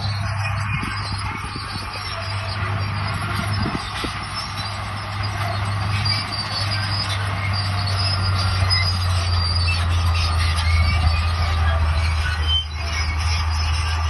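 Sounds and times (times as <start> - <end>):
diesel engine humming: 0.0 - 14.0
steel tracks squealing: 0.0 - 14.0.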